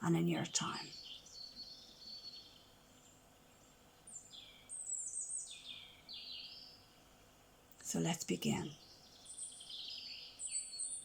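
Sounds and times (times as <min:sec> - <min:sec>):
songbird singing: 0:00.0 - 0:07.1, 0:07.7 - 0:11.0
faint outdoor hiss: 0:00.0 - 0:11.0.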